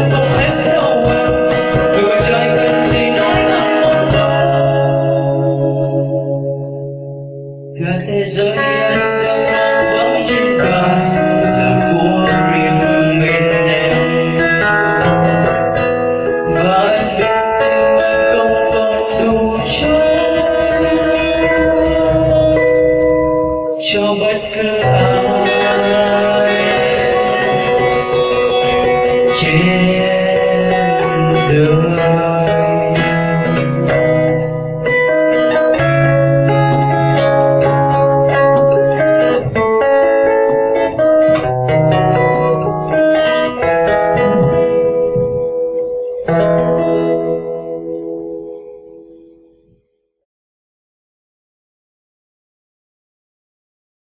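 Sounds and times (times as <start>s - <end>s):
acoustic guitar ballad: 0.0s - 49.9s.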